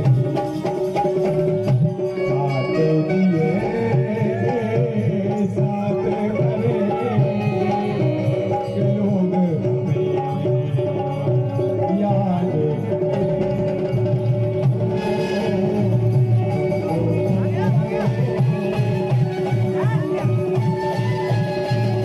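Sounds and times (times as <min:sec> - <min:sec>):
hand drum rhythm: 0:00.0 - 0:22.0.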